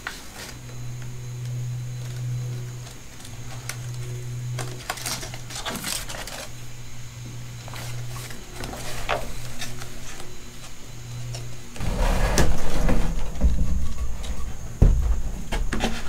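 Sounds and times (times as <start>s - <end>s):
rustling and crackling tape: 0.0s - 16.0s
steady low hum: 0.0s - 16.0s.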